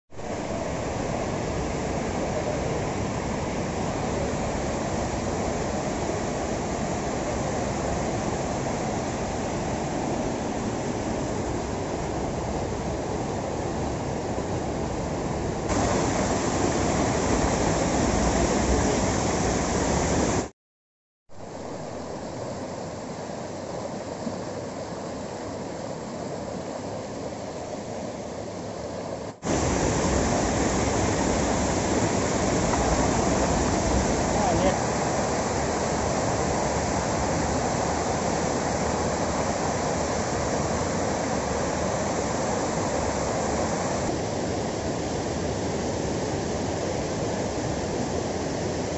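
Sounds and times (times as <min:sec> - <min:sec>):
floodwater rushing: 0:00.2 - 0:20.5, 0:28.8 - 0:48.9.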